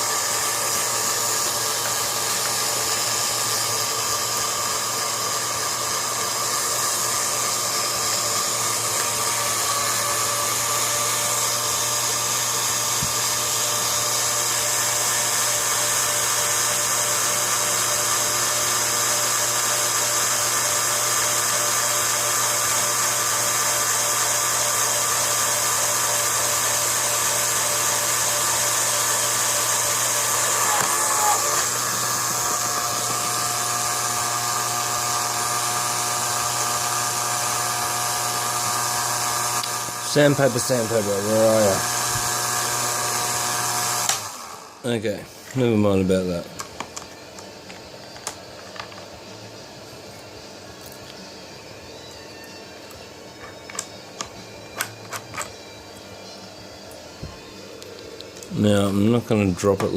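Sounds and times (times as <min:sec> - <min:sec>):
drill motor whining: 0:00.0 - 0:59.9.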